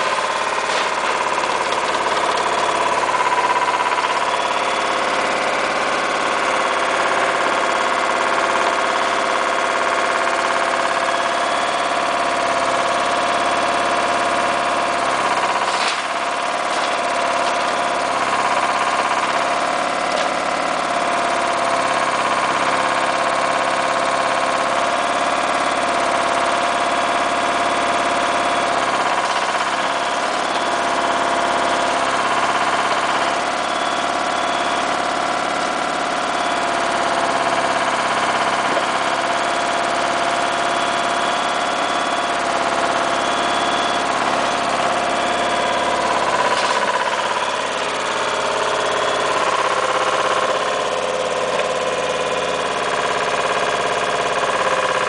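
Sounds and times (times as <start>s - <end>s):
backhoe digging soil: 0.0s - 9.2s, 10.1s - 51.8s
dumper engine running: 0.0s - 55.0s.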